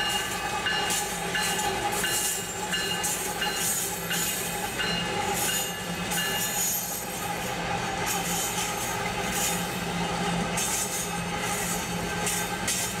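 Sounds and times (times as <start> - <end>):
locomotive engine drone: 0.0 - 13.0
wheel and rail noise: 0.0 - 13.0.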